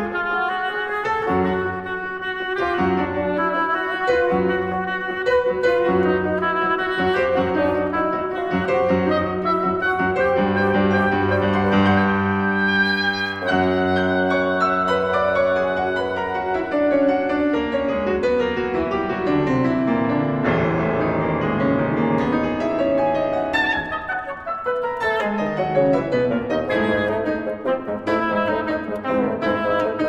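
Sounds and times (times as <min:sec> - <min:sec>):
oboe: 0:00.0 - 0:20.8, 0:22.2 - 0:30.0
bassoon: 0:00.0 - 0:30.0
piano notes: 0:00.0 - 0:30.0.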